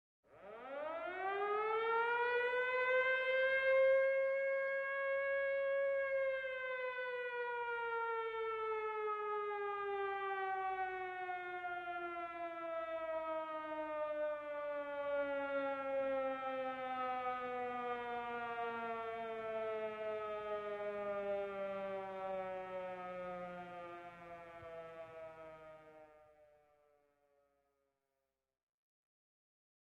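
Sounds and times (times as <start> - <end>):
air raid siren winding down: 0.4 - 26.6.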